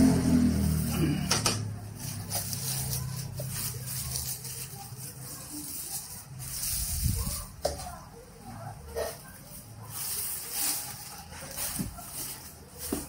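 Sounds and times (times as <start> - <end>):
plastic bag rustling: 1.8 - 13.0.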